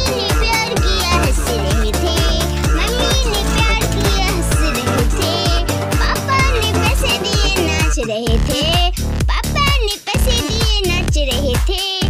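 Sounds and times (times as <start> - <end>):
children's music with drum beat: 0.0 - 12.0.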